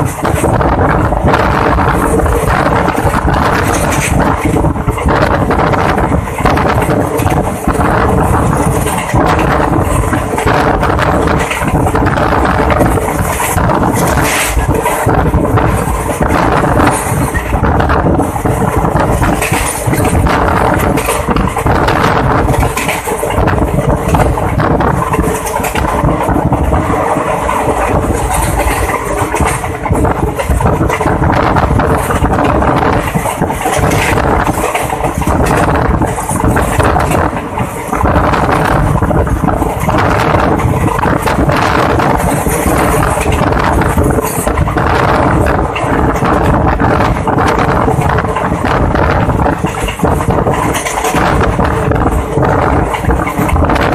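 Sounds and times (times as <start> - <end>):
rushing air: 0.0 - 53.9
train wheels rumbling on rails: 0.0 - 53.9.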